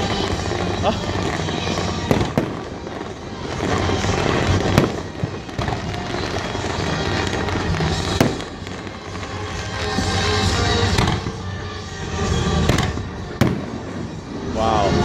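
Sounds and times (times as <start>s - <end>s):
sharp firework bangs: 0.0s - 11.6s, 12.3s - 14.5s
fireworks barrage: 0.0s - 15.0s.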